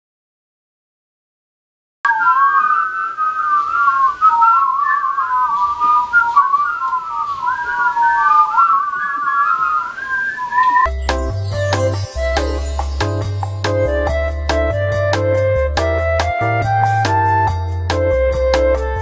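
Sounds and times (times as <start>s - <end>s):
whistled tune: 2.1s - 19.0s.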